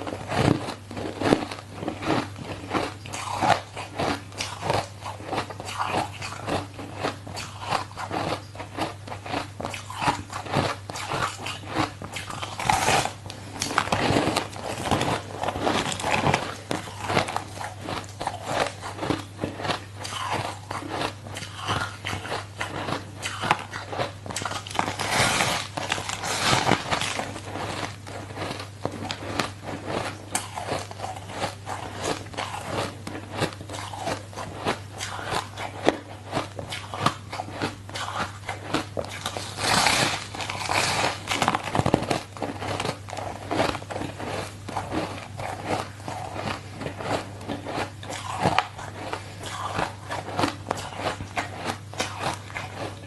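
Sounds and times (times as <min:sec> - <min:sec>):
ice crunching being chewed: 0:00.0 - 0:53.0
low steady hum: 0:00.0 - 0:53.0.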